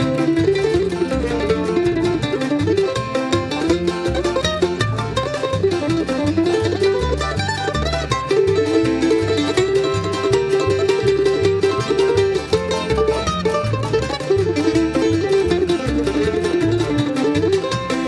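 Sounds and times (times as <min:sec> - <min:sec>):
upbeat bluegrass music: 0:00.0 - 0:18.0.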